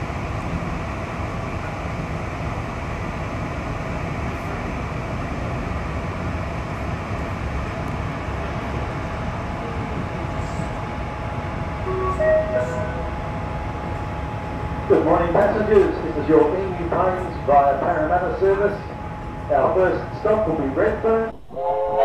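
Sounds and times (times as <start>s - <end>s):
train wheels and motors rumbling: 0.0s - 21.9s
faint steady whine: 0.0s - 22.0s.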